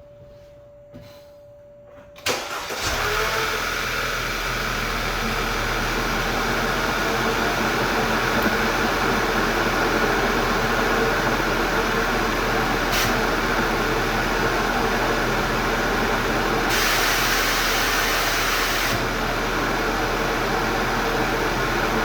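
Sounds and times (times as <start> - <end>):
car engine starting and idling: 2.2 - 22.0.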